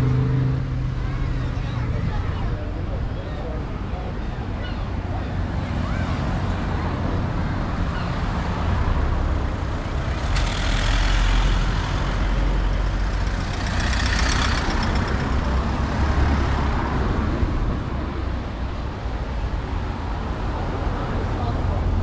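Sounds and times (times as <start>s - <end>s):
heavy vehicle engine rumbling: 0.0s - 22.0s.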